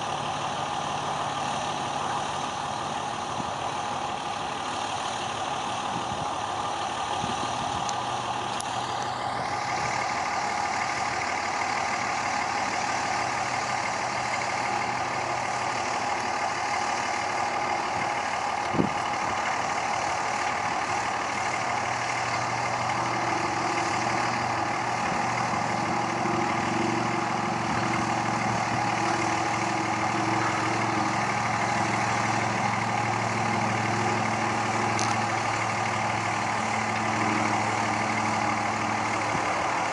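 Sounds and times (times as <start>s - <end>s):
pickup truck engine idling: 0.0s - 39.9s.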